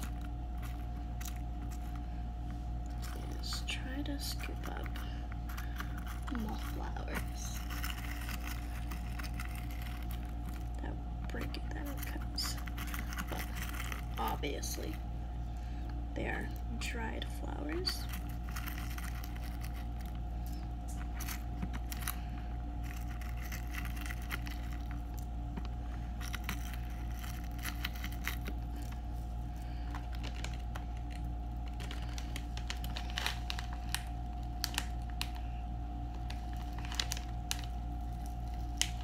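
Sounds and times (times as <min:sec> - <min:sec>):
plastic bag crinkling: 0:00.0 - 0:15.1, 0:17.6 - 0:39.0
dried flower buds crackling: 0:00.0 - 0:39.0
steady low hum: 0:00.0 - 0:39.0.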